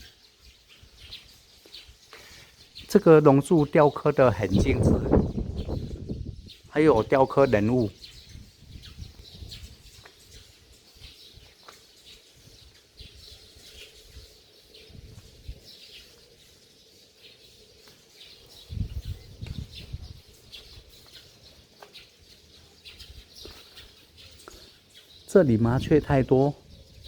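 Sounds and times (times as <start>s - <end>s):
sparrows chirping: 0.0s - 27.0s.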